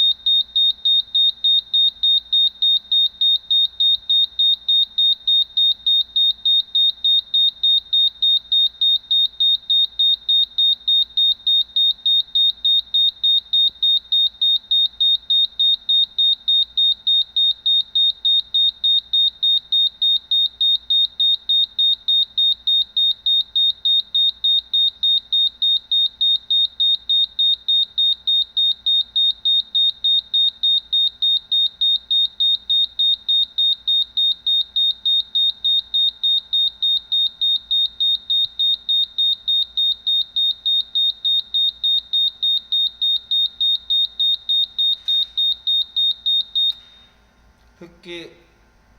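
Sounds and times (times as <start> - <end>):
alarm buzzer beeping rapidly: 0.0 - 46.8.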